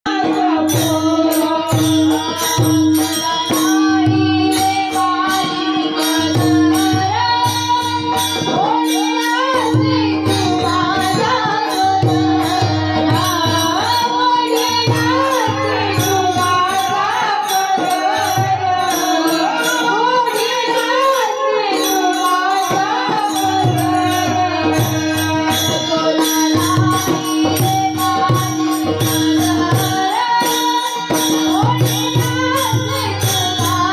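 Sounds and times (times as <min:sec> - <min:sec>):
hand drum beating: 0:00.1 - 0:21.0, 0:21.6 - 0:33.9
jingling percussion: 0:00.1 - 0:33.9
woman singing: 0:00.1 - 0:33.9.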